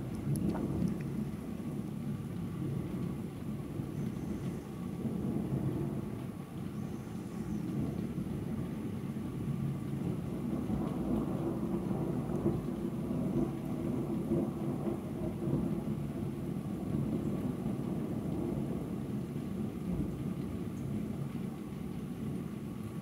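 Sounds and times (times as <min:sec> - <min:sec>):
thunder rumbling: 0:00.0 - 0:06.6, 0:07.2 - 0:20.4.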